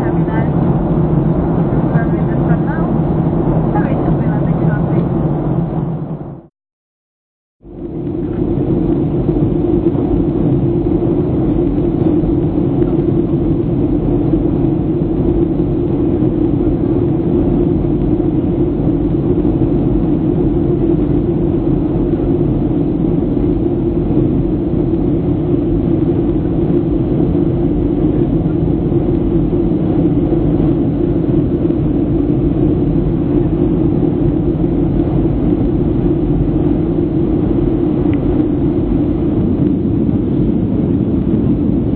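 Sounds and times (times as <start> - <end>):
jet engines roaring in cabin: 0.0 - 6.5, 7.6 - 41.9
rushing air: 7.6 - 41.9.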